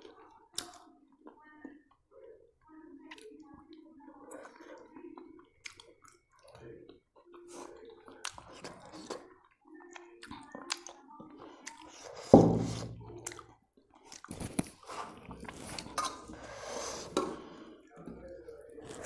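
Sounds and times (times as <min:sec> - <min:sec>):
chewing and wet mouth sounds: 0:00.0 - 0:12.4, 0:13.0 - 0:19.0
food squishing by hand: 0:00.0 - 0:19.0.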